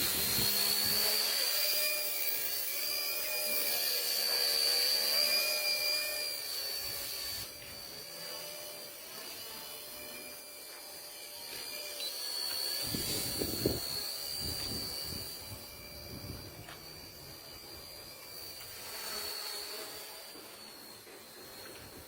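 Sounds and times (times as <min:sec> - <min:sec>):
toy motor high whine: 0:00.0 - 0:22.0.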